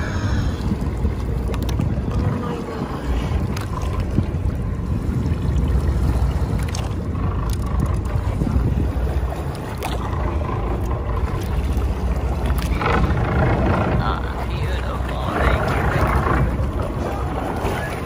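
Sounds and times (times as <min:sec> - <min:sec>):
boat engine rumble: 0:00.0 - 0:18.0
rushing water: 0:00.0 - 0:18.0
wind: 0:00.0 - 0:18.0.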